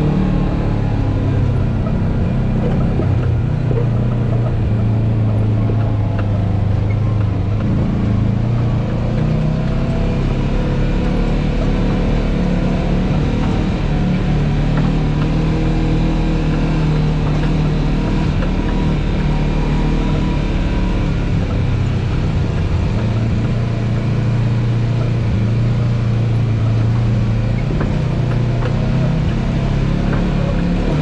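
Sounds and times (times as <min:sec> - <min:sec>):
off-road vehicle engine under load: 0:00.0 - 0:31.0.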